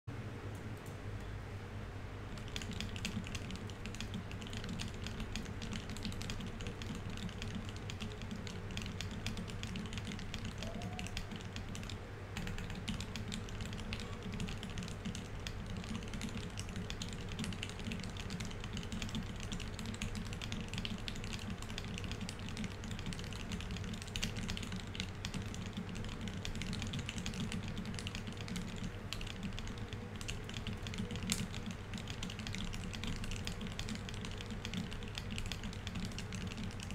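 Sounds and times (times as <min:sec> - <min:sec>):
fast mechanical keyboard typing: 0:02.3 - 0:36.9.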